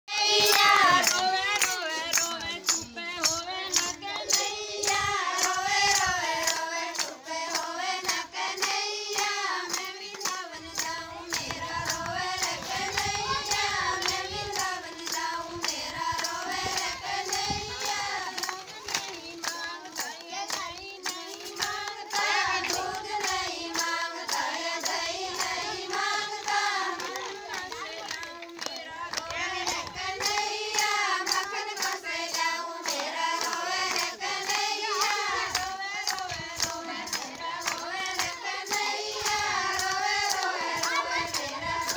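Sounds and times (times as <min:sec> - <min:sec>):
rhythmic hand-clapping: 0:00.1 - 0:41.9
women singing devotional song: 0:00.1 - 0:41.9.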